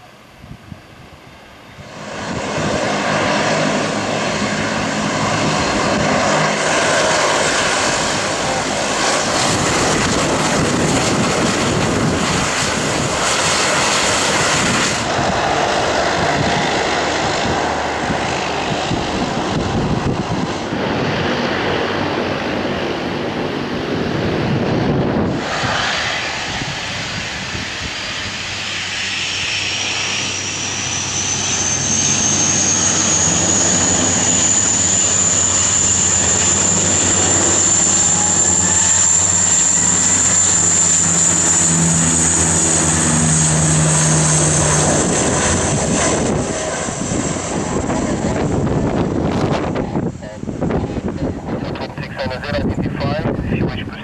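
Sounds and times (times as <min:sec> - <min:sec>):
distant aircraft: 0:00.0 - 0:54.0
propeller drone: 0:00.0 - 0:54.0
turbine whine: 0:00.0 - 0:54.0.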